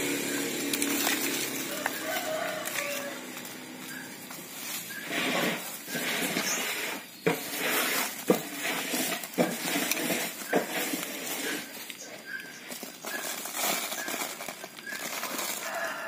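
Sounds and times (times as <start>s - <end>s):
soil scraping against plastic sack: 0.0s - 16.0s.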